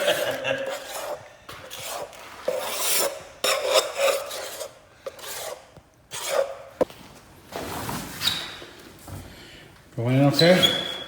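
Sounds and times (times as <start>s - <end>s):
hand scraping and rubbing: 0.0s - 9.1s.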